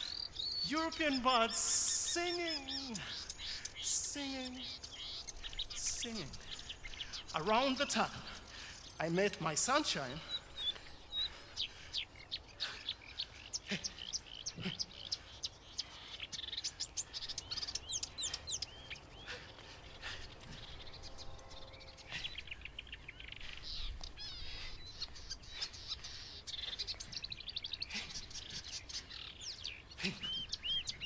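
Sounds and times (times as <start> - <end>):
warbler singing: 0.0 - 31.0.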